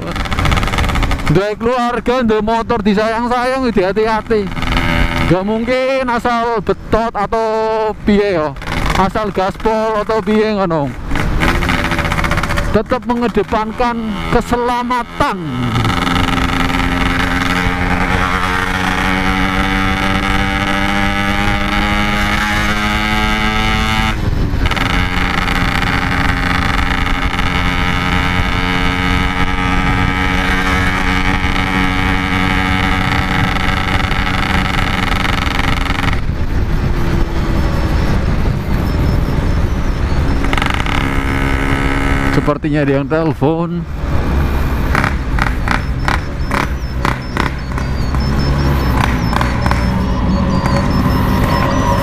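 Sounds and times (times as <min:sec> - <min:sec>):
two-stroke motorcycle engine: 0:00.0 - 0:52.0.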